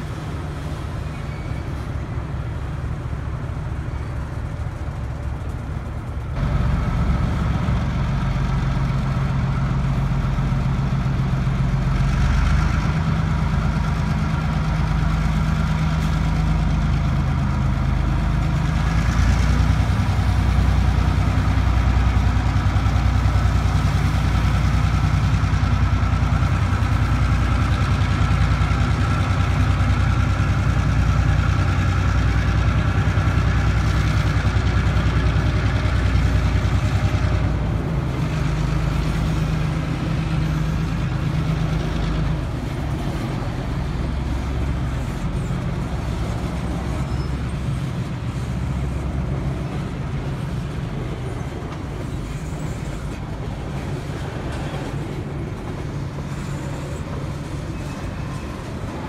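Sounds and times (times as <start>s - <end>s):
freight cars rattling past: 0.0s - 59.0s
locomotive engine droning: 0.0s - 59.0s.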